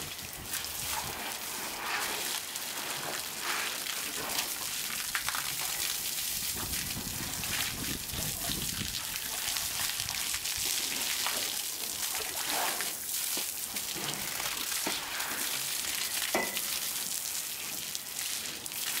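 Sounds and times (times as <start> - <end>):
hose water spraying: 0.0 - 19.0
water splashing on ground: 0.0 - 19.0.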